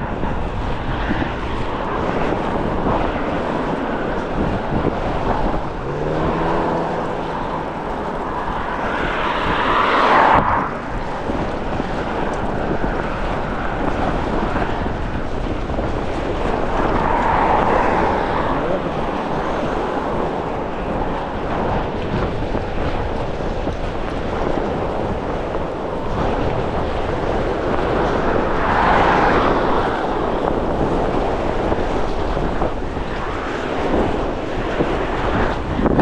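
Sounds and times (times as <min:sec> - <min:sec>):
gusty wind buffeting microphone: 0:00.0 - 0:36.0.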